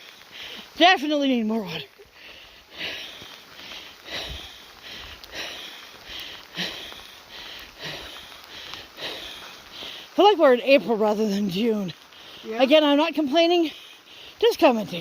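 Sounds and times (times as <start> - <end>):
footsteps on wet gravel: 0.0 - 15.0.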